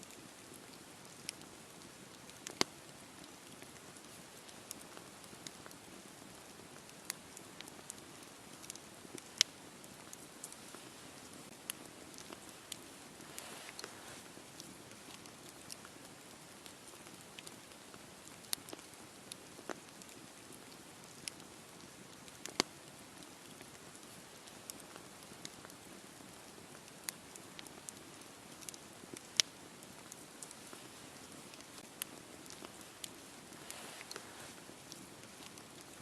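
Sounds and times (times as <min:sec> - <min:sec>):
campfire crackling and popping: 0:00.1 - 0:36.0.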